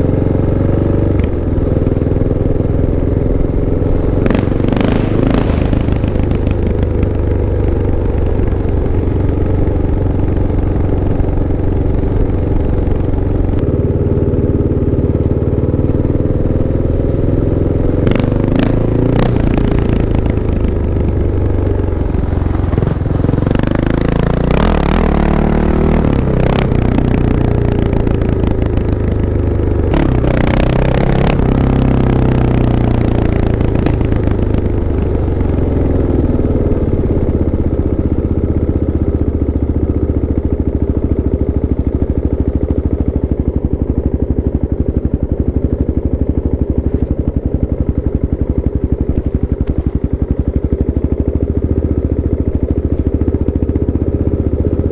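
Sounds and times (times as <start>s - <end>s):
motorcycle engine revving and idling: 0.0s - 54.9s.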